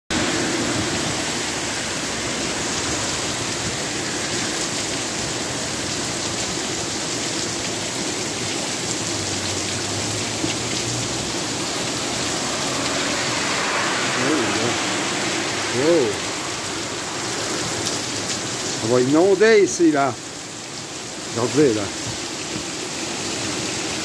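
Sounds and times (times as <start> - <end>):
torrential rain on street: 0.1 - 24.0.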